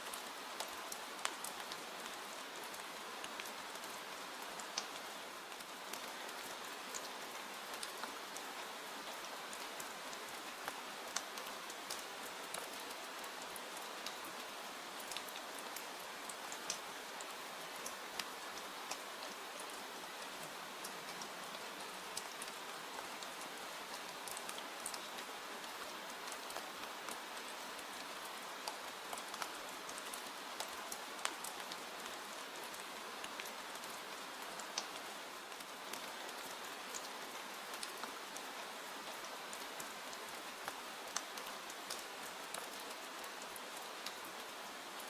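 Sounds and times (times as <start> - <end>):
sharp ticks of rain: 0.0 - 45.0
steady rain hiss: 0.0 - 45.0.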